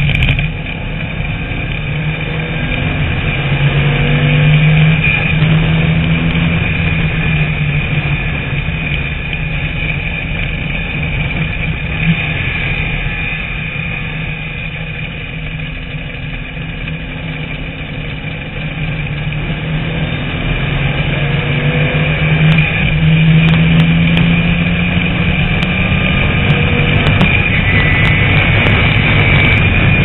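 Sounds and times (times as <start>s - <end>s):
race car engine accelerating: 0.0s - 30.0s.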